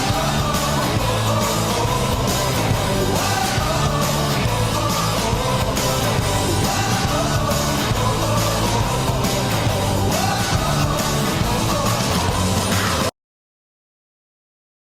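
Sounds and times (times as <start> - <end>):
rock song with singing: 0.0 - 13.1.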